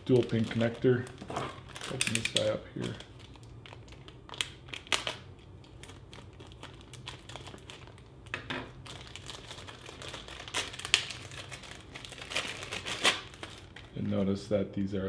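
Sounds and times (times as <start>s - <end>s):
packaging crinkling and rustling: 0.0s - 14.2s.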